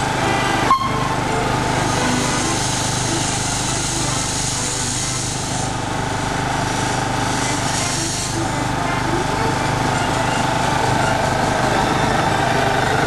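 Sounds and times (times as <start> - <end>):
high steam hiss: 0.0 - 11.9
steam engine mechanical beat: 0.0 - 13.0.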